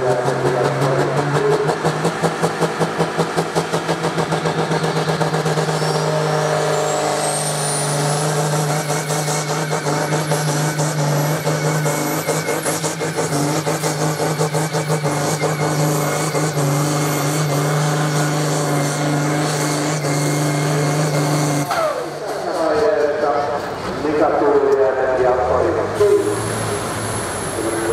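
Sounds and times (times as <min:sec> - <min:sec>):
tractor diesel engine at high revs: 0:00.0 - 0:22.6, 0:25.3 - 0:27.9.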